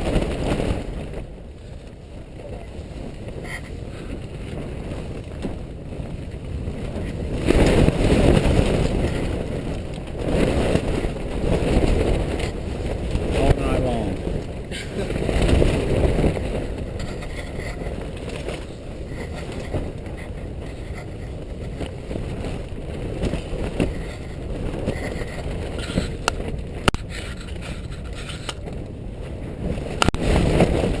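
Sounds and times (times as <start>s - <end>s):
tent fabric shaking: 0.0s - 28.5s, 29.6s - 31.0s
storm wind rushing: 0.0s - 31.0s.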